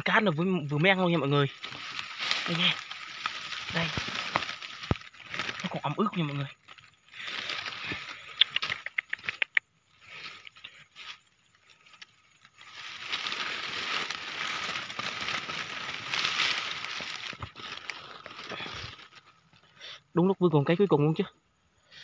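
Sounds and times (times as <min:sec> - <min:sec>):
dry grass and leaves rustling: 0:00.0 - 0:21.0.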